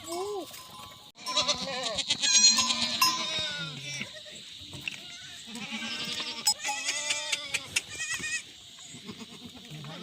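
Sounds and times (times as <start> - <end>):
goats bleating: 1.2 - 10.0.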